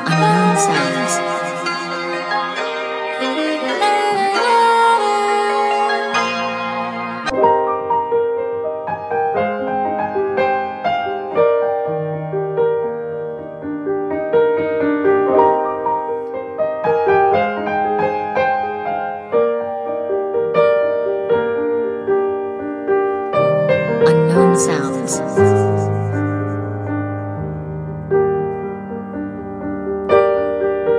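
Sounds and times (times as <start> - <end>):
piano chords and melody: 0.0 - 30.9.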